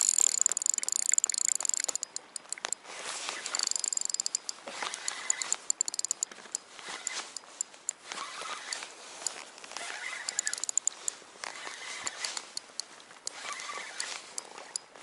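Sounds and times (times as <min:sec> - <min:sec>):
fishing reel ticking: 0:00.0 - 0:14.9
wind: 0:00.0 - 0:15.0.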